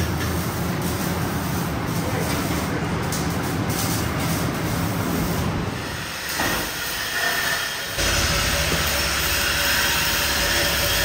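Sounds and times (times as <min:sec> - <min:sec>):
welder hissing and buzzing: 0:00.0 - 0:11.0
workshop noise: 0:00.0 - 0:11.0.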